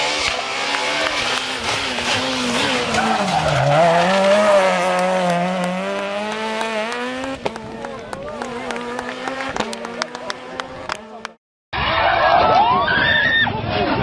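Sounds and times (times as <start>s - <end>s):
rally car engine revving: 0.0s - 11.4s
tyres skidding: 0.0s - 11.4s.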